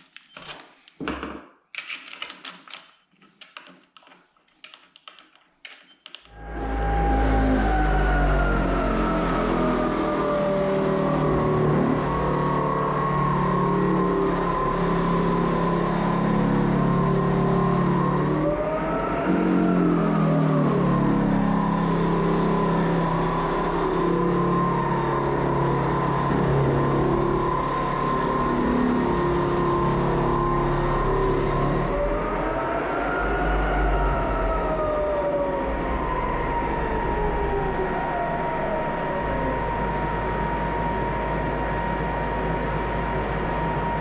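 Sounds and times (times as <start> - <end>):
floor sander motor whine: 6.3 - 44.0.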